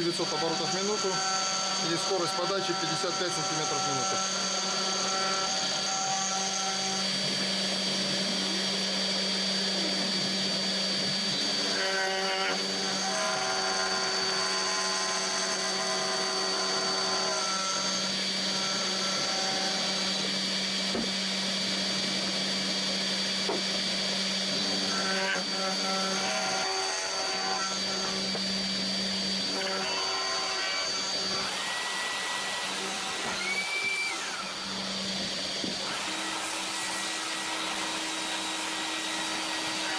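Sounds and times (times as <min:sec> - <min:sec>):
router milling plastic: 0:00.0 - 0:39.9
whining drive motors: 0:00.0 - 0:39.9.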